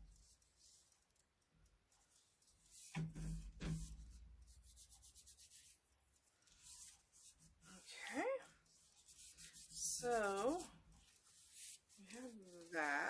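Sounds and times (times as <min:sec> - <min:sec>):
paper rubbing and rustling: 0:00.0 - 0:01.2, 0:01.9 - 0:13.0.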